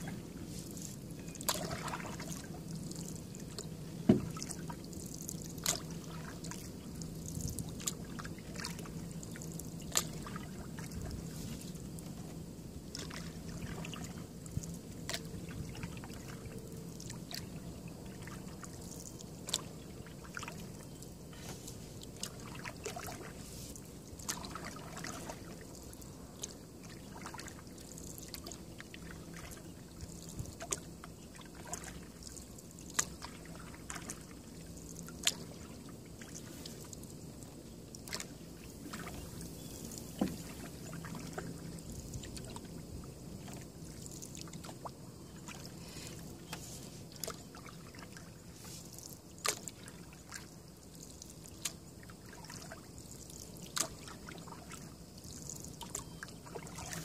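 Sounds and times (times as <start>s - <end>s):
paddle strokes through water: 0.0s - 57.0s.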